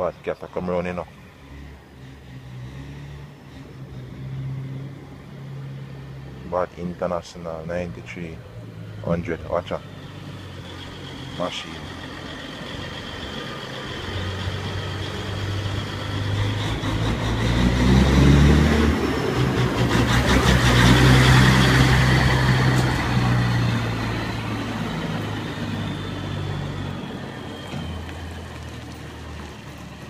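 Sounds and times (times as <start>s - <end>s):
diesel truck driving past: 0.0s - 30.0s.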